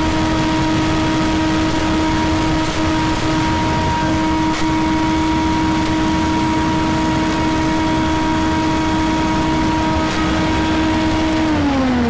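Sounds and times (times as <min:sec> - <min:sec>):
debris blower droning: 0:00.0 - 0:12.0.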